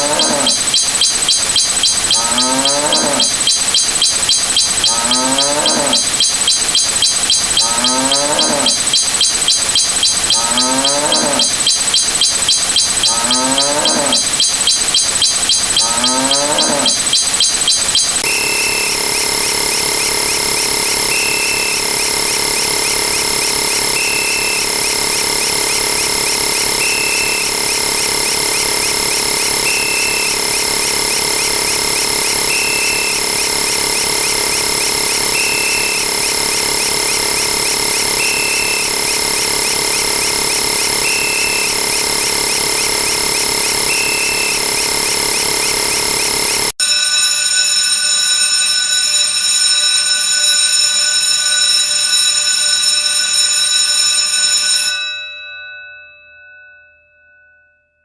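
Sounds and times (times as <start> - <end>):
short high beep: 0.0 - 46.8
many sound effects at once: 0.0 - 49.4
held tones: 0.0 - 50.2.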